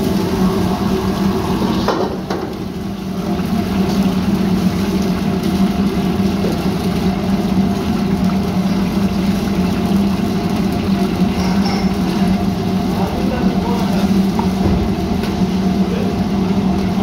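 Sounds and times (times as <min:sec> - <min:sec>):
gas burners roaring: 0:00.0 - 0:17.0.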